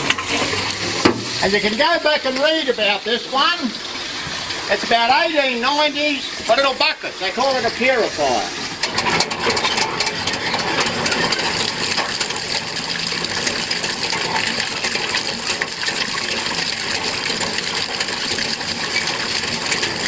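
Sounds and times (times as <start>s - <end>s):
water pump running: 0.0s - 20.0s
water splashing and pouring: 0.0s - 20.0s.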